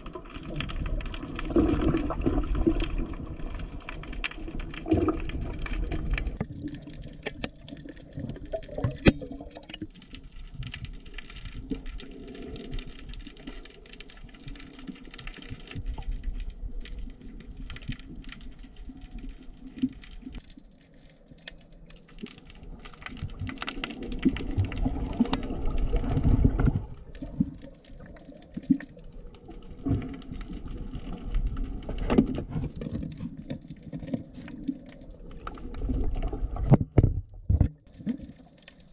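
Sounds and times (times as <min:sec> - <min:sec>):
bubbles: 0:00.0 - 0:20.4, 0:22.5 - 0:38.9
underwater rushing water: 0:00.0 - 0:38.9.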